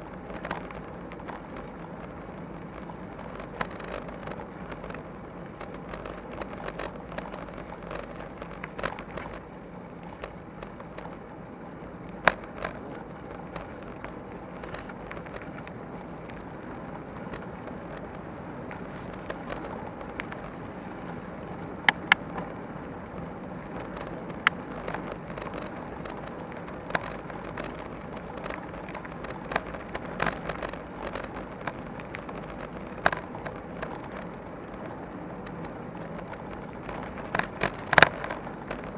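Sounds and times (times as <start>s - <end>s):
bicycle tyres rolling on gravel: 0.0s - 38.9s.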